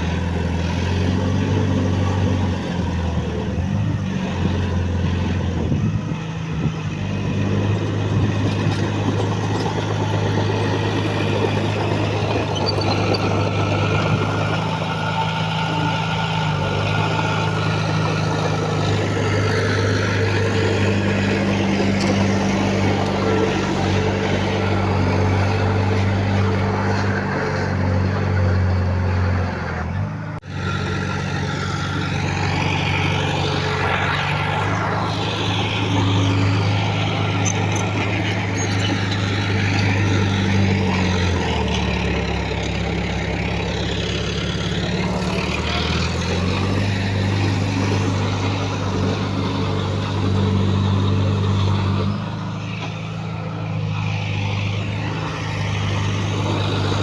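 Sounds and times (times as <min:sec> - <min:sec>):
heavy machine diesel engine running: 0:00.0 - 0:57.0.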